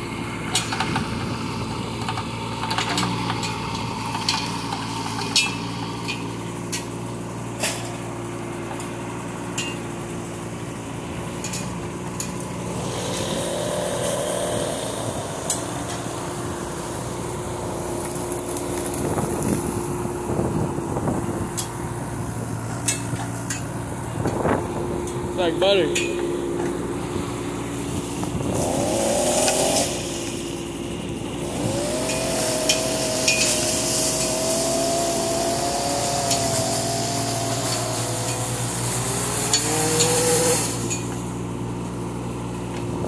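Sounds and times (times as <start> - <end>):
excavator diesel engine running: 0.0 - 43.0
hydraulic whine: 0.0 - 43.0.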